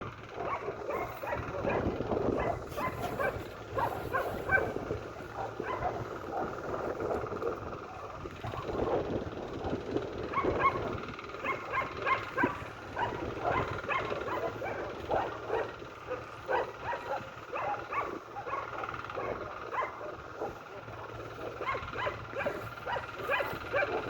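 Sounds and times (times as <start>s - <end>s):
dog barking and yipping: 0.3s - 7.2s, 7.8s - 9.1s, 10.2s - 24.0s.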